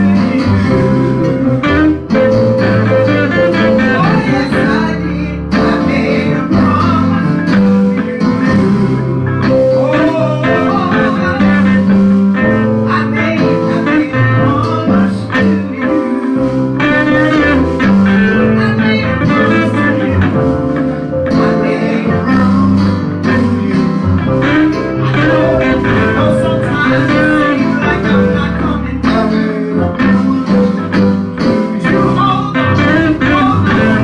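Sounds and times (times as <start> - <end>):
guitar playing melodic lines: 0.0 - 34.0
live gospel band music: 0.0 - 34.0
person singing: 0.0 - 34.0.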